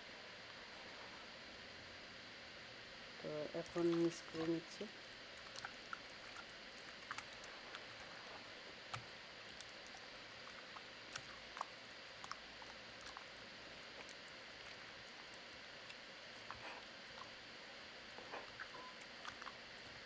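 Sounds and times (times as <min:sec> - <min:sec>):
wet squishing of hands mixing: 0:03.2 - 0:20.0.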